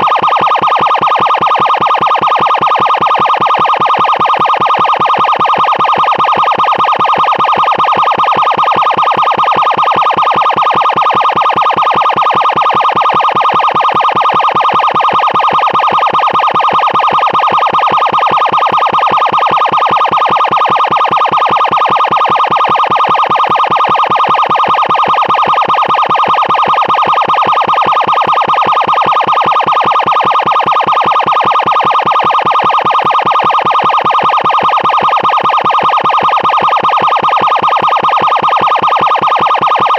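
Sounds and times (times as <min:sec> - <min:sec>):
pulsing emergency siren: 0:00.0 - 0:39.9.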